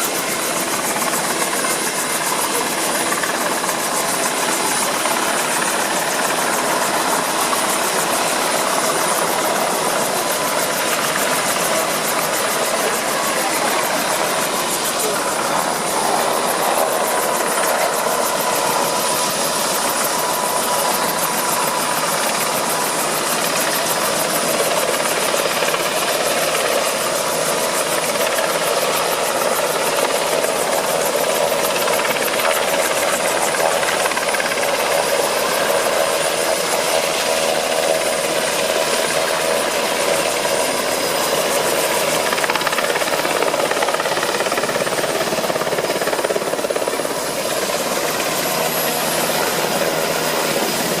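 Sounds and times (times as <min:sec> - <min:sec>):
helicopter engine and rotor noise: 0:00.0 - 0:51.0.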